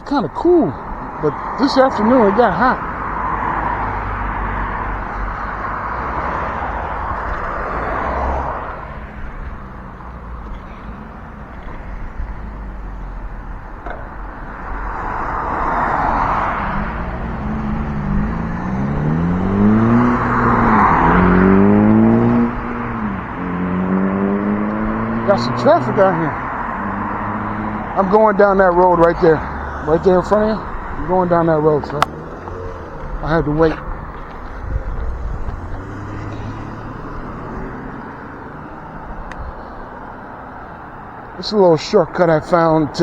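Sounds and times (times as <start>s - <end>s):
cars passing: 0.0s - 43.0s
vehicle engine passing by: 1.2s - 10.9s, 14.5s - 43.0s.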